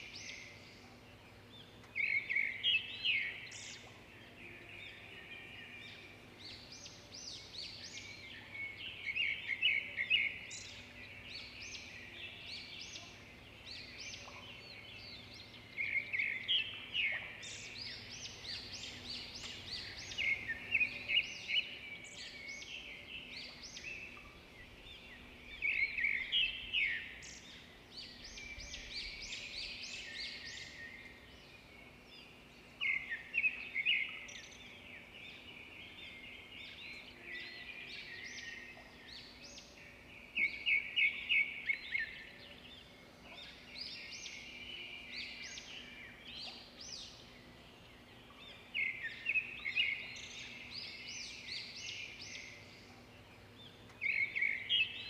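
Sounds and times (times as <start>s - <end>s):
songbird chirping and trilling: 0.0s - 55.0s.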